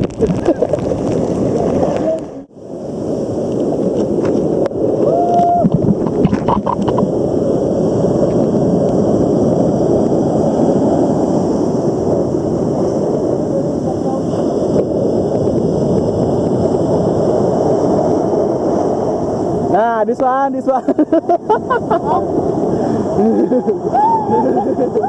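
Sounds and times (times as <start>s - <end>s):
heavy ocean surf roaring: 0.0s - 25.0s
wind on microphone: 0.0s - 25.0s.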